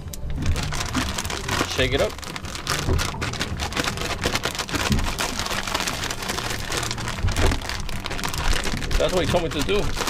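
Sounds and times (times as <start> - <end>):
plastic bag crinkling: 0.1 - 10.0.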